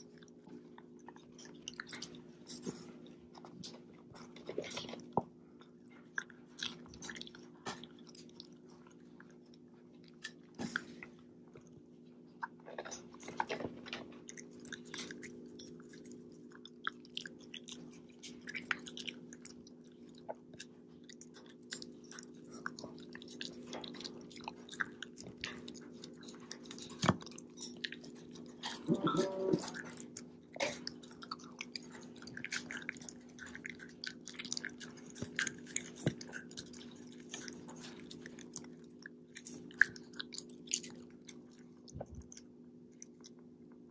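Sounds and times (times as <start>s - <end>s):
dog chewing crunchy food: 0.0s - 43.9s.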